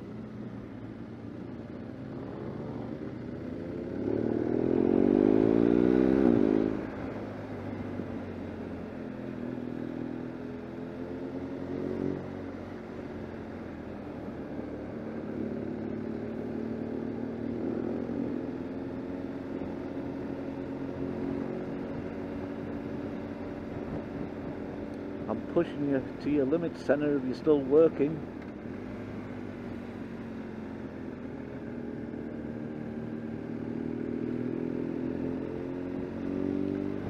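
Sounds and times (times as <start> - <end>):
motorcycle engine running: 0.0 - 37.0
road and wind noise: 0.0 - 37.0.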